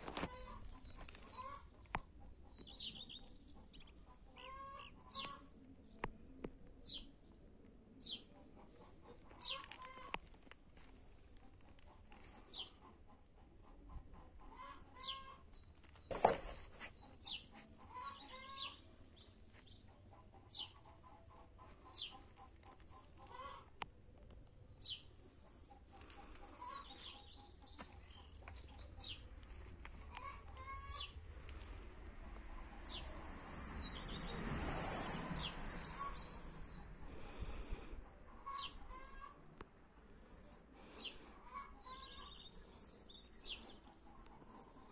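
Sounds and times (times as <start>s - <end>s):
chickens clucking: 0.0s - 3.3s, 8.0s - 44.9s.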